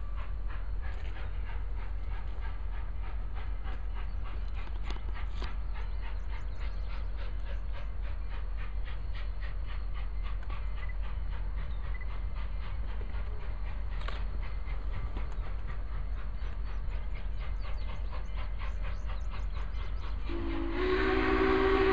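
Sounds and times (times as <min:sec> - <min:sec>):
steam locomotive chuffing: 0:00.0 - 0:21.9.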